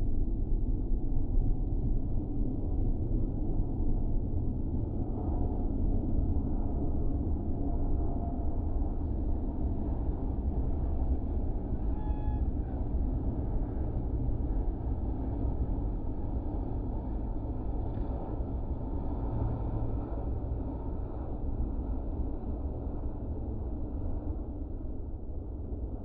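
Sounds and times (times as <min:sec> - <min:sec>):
jet engines low rumble: 0:00.0 - 0:26.0.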